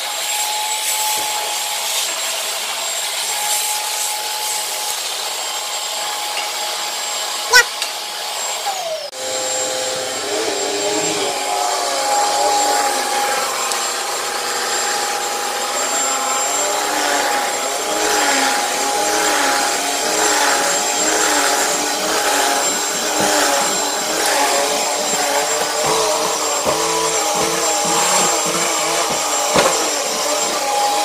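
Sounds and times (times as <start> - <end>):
vacuum cleaner on carpet: 0.0 - 31.0.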